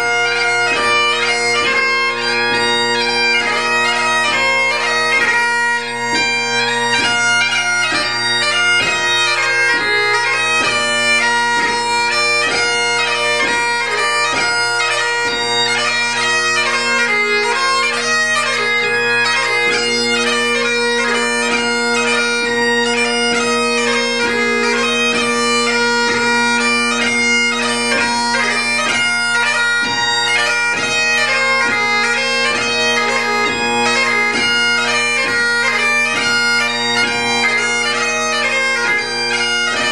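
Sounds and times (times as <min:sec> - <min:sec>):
bagpipe playing: 0:00.0 - 0:39.9.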